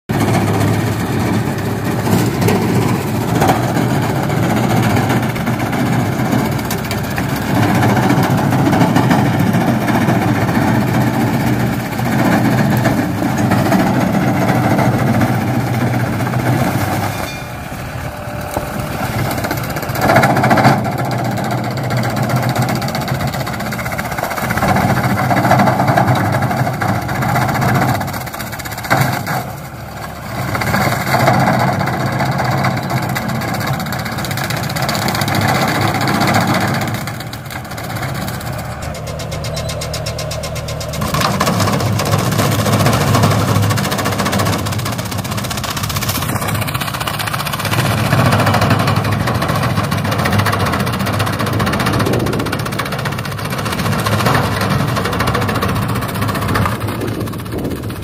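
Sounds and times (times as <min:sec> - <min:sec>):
shredder chopping stalks: 0:00.1 - 0:17.2, 0:18.1 - 0:57.8
tractor engine running: 0:00.1 - 0:58.0.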